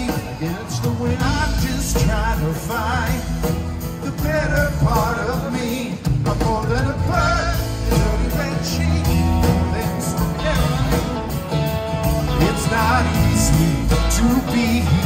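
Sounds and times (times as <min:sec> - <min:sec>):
live pop-rock band with singing: 0:00.0 - 0:15.0.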